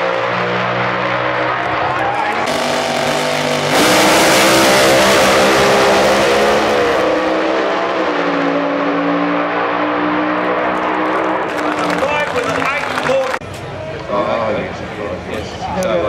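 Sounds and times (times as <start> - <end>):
drag racing cars at full throttle: 0.0 - 16.0.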